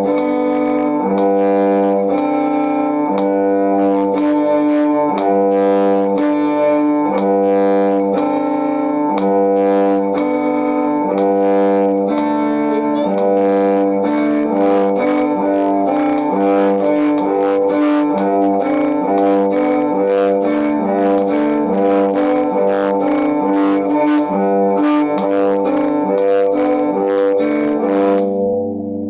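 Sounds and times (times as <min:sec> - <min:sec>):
even clicking beat: 0:00.0 - 0:29.0.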